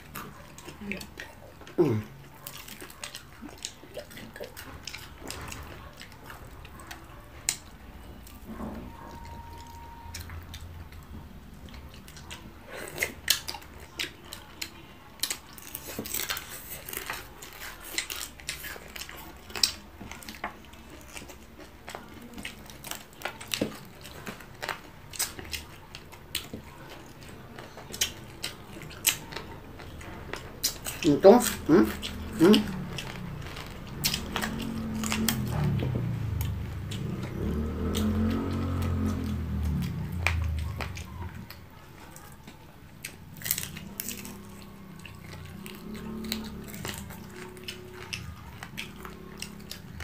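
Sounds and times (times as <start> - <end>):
person chewing: 0.0 - 50.0.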